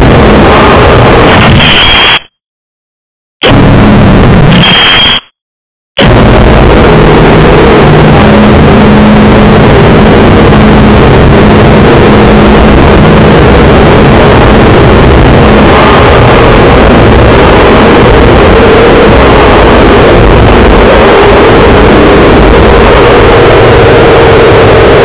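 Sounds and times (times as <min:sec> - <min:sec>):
distorted wall of noise: 0:00.0 - 0:02.4, 0:03.4 - 0:05.4, 0:06.0 - 0:25.0.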